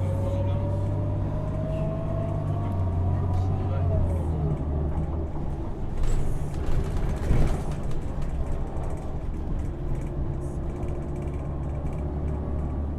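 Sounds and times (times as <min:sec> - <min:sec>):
bus engine and road rumble: 0:00.0 - 0:12.9.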